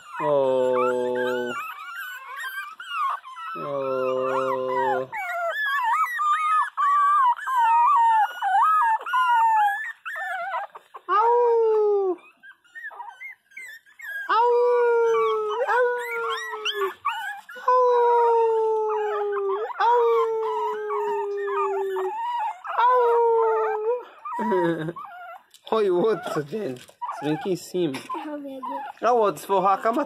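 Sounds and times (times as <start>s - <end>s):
puppy howling: 0.0s - 30.0s.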